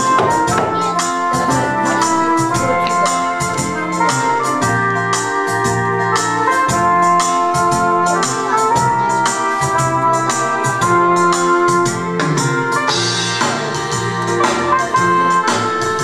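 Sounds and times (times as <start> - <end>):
electronic keyboard chords: 0.0 - 16.0
steady beat: 0.0 - 16.0.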